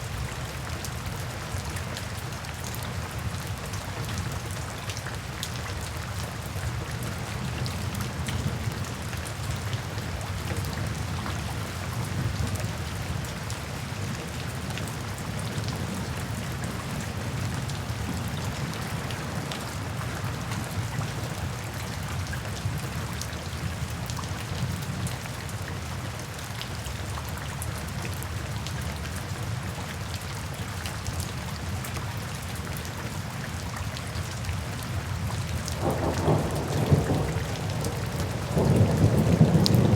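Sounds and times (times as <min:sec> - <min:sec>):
low rain rumble: 0:00.0 - 0:39.9
rain drops ticking on surfaces: 0:00.0 - 0:39.9.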